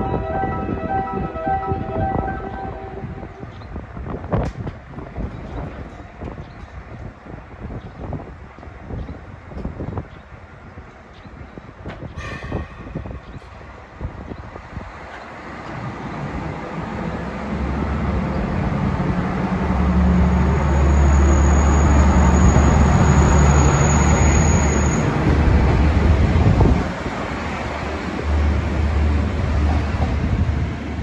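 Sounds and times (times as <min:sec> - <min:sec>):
diesel railcar engine running hard: 0:03.6 - 0:31.0.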